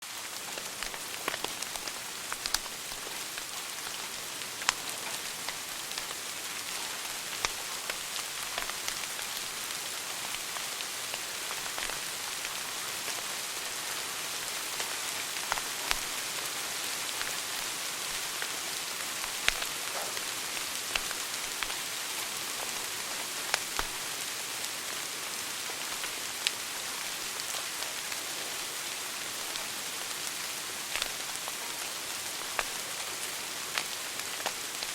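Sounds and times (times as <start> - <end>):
fire crackles and pops: 0.0 - 34.9
wood fire hissing: 0.1 - 34.9.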